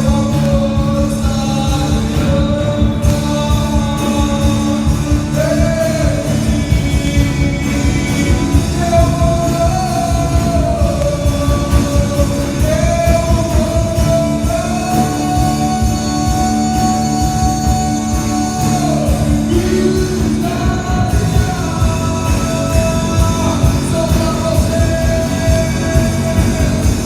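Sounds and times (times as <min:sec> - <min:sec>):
singer holding long notes: 0:00.0 - 0:27.0
worship band playing: 0:00.0 - 0:27.0.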